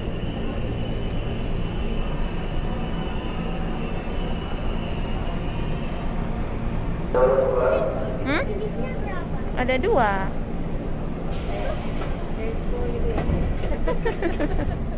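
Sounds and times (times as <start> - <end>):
electric train car hum: 0.0 - 14.9.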